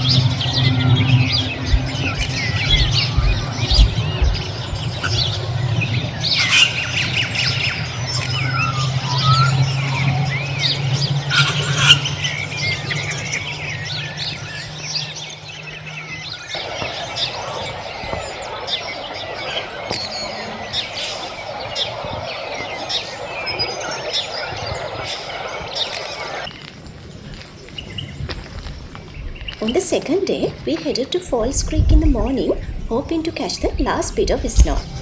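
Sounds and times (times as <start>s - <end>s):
steady low hum: 0.0s - 25.6s, 29.0s - 35.0s
birds chirping: 0.0s - 35.0s.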